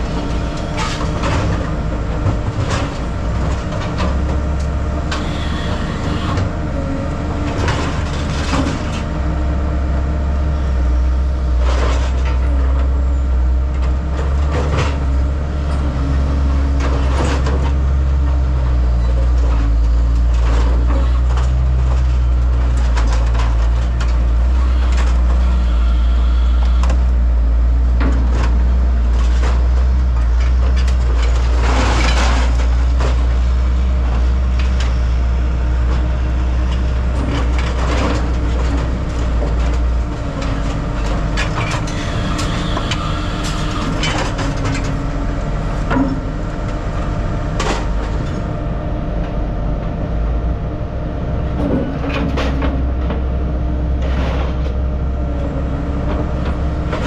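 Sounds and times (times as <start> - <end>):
heavy truck engine running: 0.0 - 57.0.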